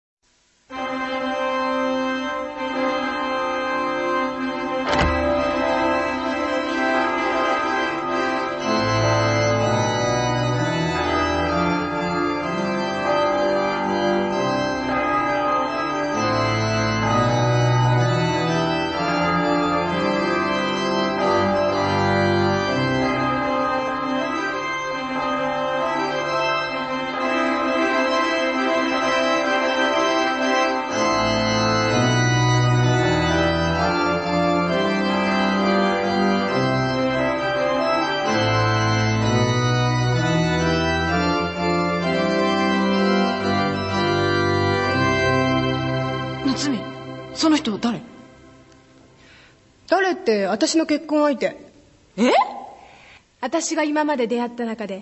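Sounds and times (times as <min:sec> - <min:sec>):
organ music with slow chords: 0:00.7 - 0:49.9.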